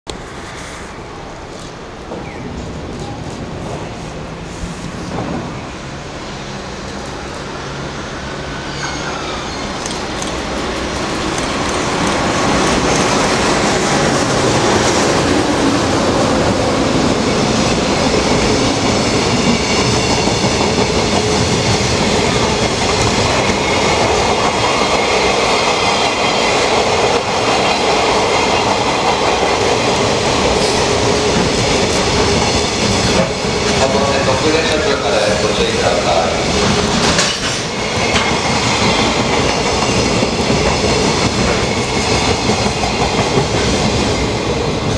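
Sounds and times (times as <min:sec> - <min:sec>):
freight train passing: 0:00.1 - 0:44.9
wheels rumbling and clattering on rails: 0:00.1 - 0:44.9.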